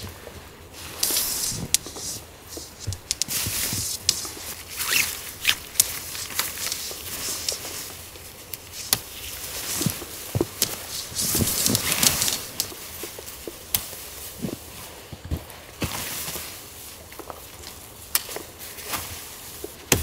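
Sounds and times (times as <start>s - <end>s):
tent fabric rustling: 0.0s - 20.0s
tent poles clicking and knocking: 0.8s - 20.0s.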